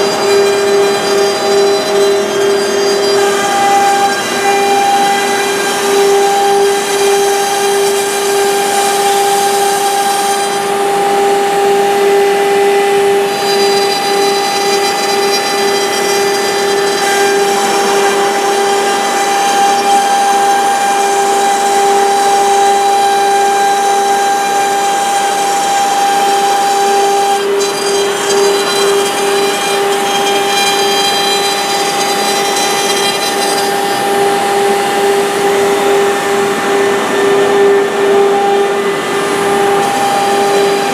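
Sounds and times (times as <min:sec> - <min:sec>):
woodworking machine whining: 0:00.0 - 0:40.9.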